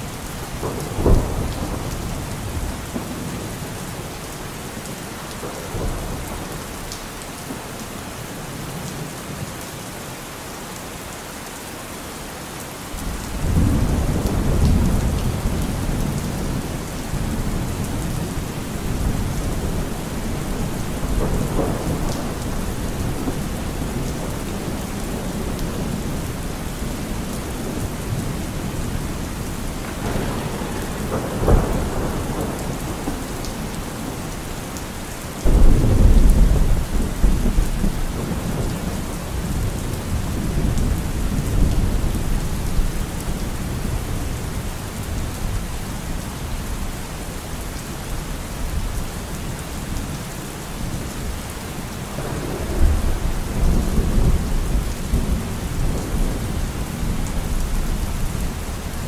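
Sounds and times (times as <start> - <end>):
rolling thunder: 0.0 - 7.0, 13.0 - 45.6, 50.8 - 59.0
steady rain: 0.0 - 59.0.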